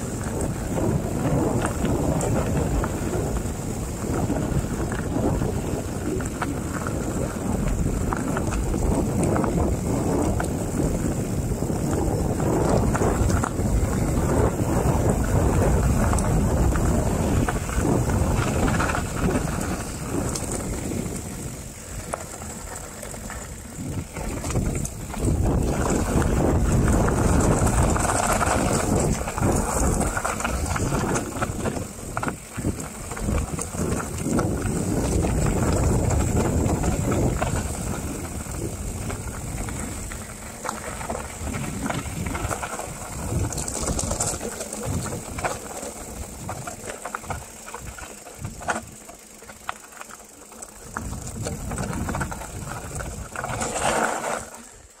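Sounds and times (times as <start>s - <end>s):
wind buffeting microphone: 0.0s - 49.1s, 50.8s - 54.4s
bike rattling over bumps: 0.0s - 55.0s
tyres on gravel: 0.0s - 55.0s.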